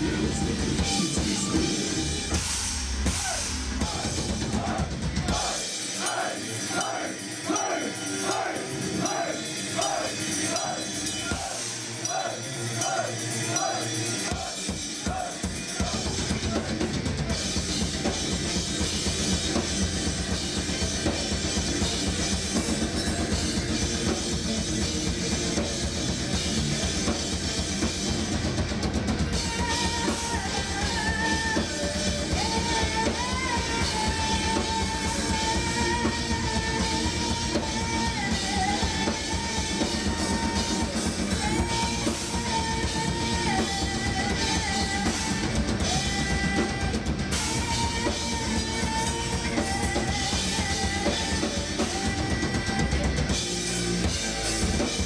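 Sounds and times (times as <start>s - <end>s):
metal band playing live: 0.0s - 55.0s.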